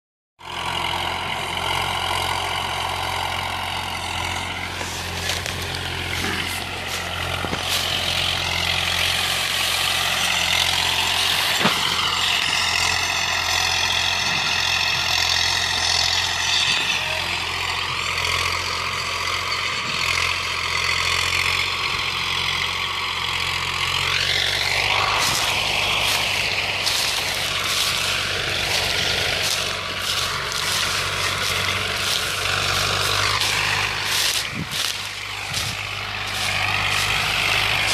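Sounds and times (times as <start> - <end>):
diesel tractor engine running: 0.4 - 37.9.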